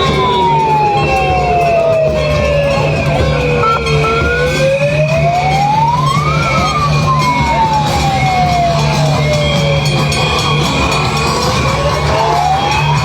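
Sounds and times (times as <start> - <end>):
loud music: 0.0 - 13.0
siren wailing: 0.0 - 13.0.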